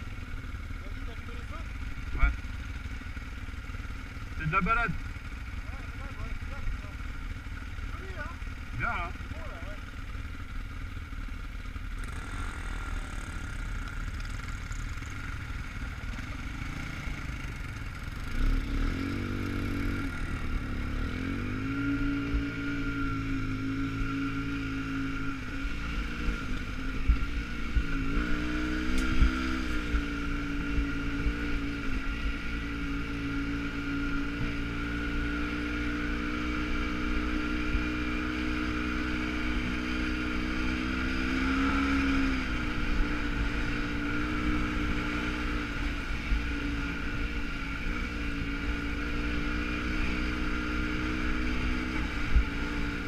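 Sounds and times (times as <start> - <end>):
quad bike engine revving: 0.0 - 53.0.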